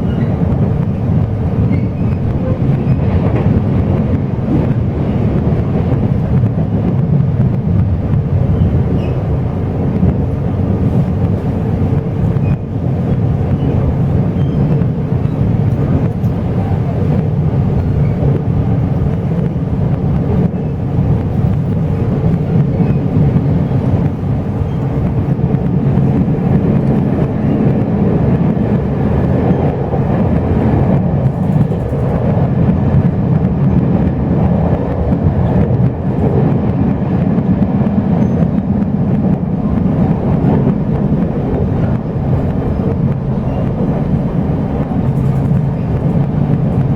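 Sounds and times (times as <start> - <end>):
rattling train car body: 0.0 - 46.9
train wheels rumbling on rails: 0.0 - 46.9.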